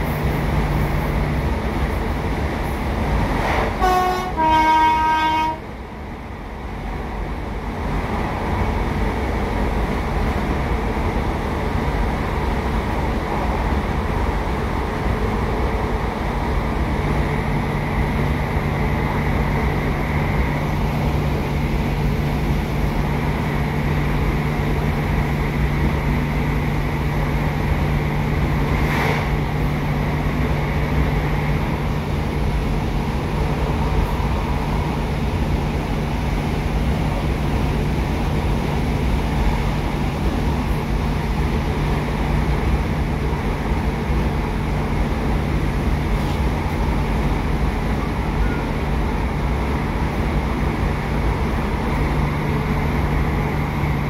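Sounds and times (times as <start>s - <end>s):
diesel engine low hum: 0.0s - 4.3s, 5.6s - 54.0s
wheel-on-rail rumble: 0.0s - 54.0s.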